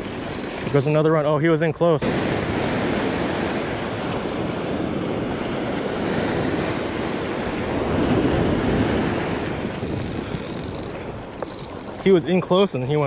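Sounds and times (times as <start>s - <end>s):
ocean surf washing: 0.0s - 13.0s
wind buffeting microphone: 2.0s - 13.0s.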